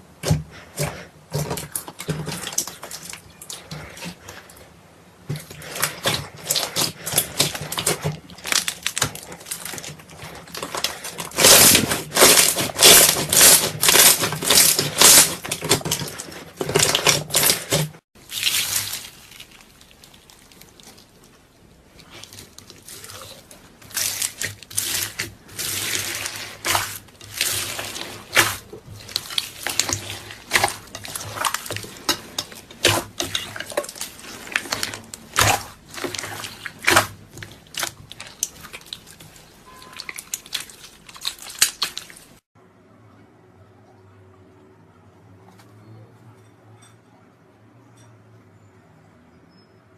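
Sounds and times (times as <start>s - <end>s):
slime squelching: 0.0s - 42.4s.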